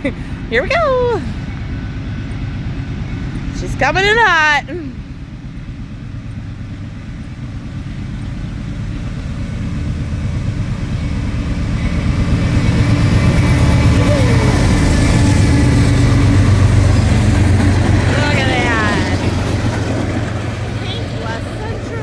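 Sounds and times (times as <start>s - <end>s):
diesel locomotives approaching: 0.0s - 22.0s.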